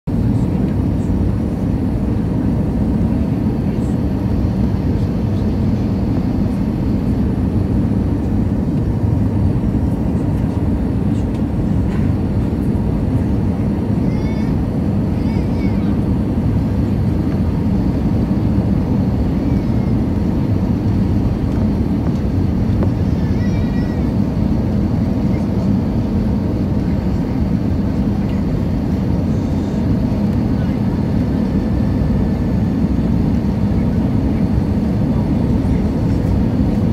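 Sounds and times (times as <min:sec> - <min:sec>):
airliner cabin engine drone: 0:00.1 - 0:36.9.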